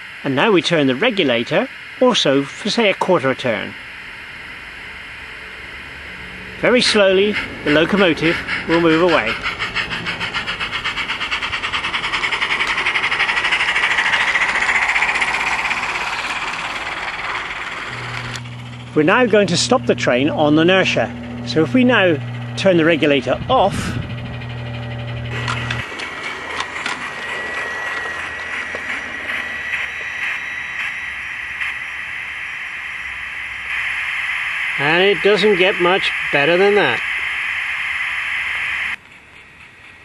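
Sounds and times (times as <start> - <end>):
steam locomotive exhaust chuffs: 0.0 - 40.0.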